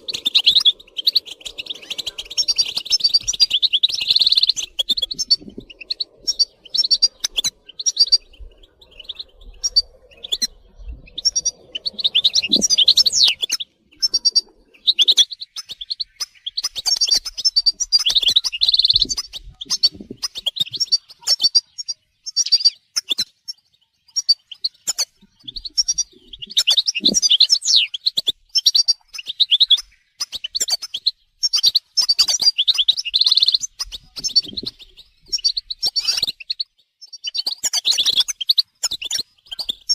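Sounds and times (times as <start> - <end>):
finches twittering and calling: 0.0 - 39.9.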